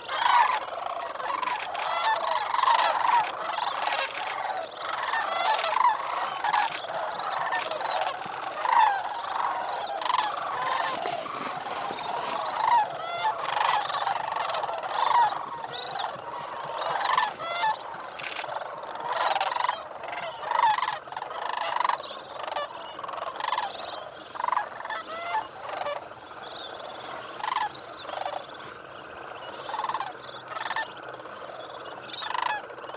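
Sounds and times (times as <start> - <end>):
cranes calling: 0.0 - 32.9.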